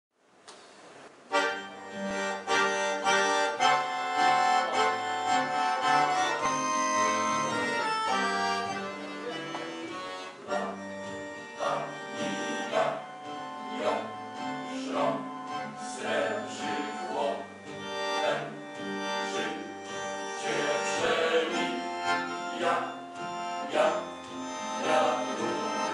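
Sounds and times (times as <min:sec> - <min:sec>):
accordion melody: 0:01.3 - 0:25.9
guitar chords: 0:01.3 - 0:25.9.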